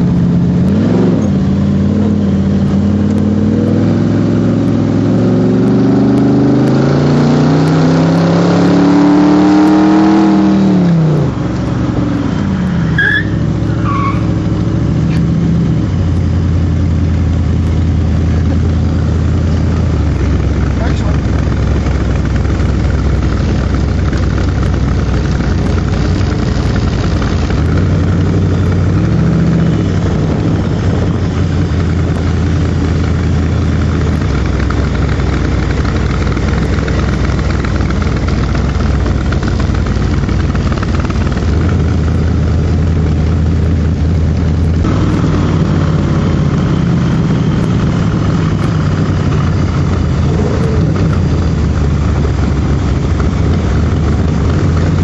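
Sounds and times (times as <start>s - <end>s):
car engine running and revving: 0.0s - 55.0s.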